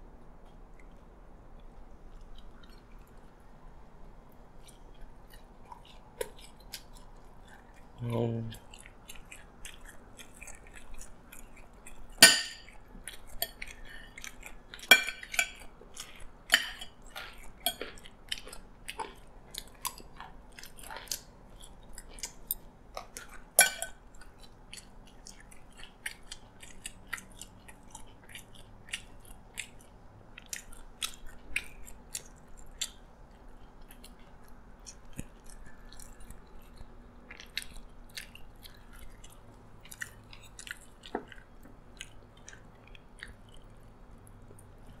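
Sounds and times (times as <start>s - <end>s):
chewing and crunching: 0.2s - 45.0s.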